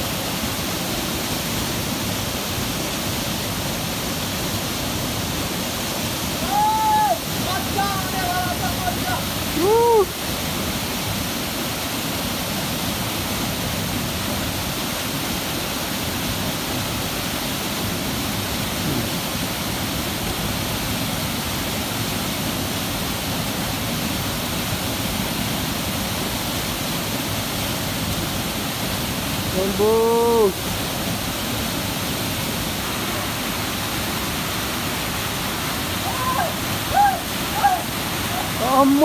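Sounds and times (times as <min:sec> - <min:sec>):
waterfall and river rushing: 0:00.0 - 0:39.0.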